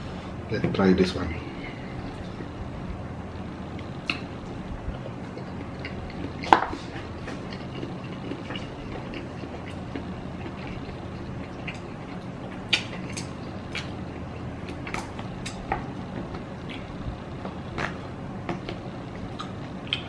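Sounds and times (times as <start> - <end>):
steady low hum: 0.0 - 20.0
chewing: 3.7 - 20.0.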